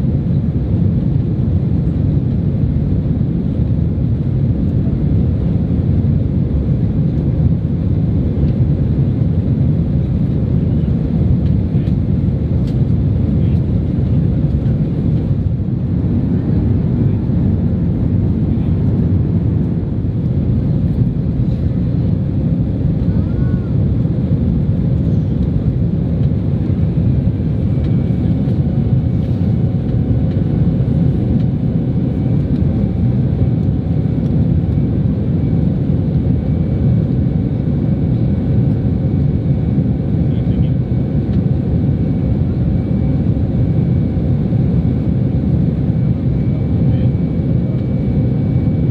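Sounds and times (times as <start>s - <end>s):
jet engine cabin rumble: 0.0s - 48.9s.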